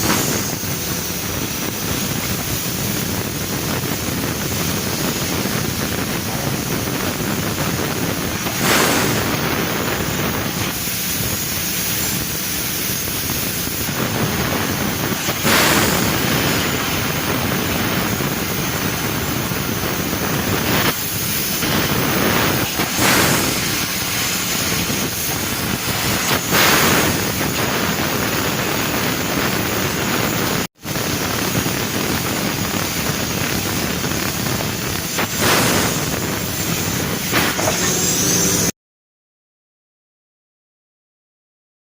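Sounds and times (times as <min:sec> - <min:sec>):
laser cutting machine hissing: 0:00.0 - 0:38.8.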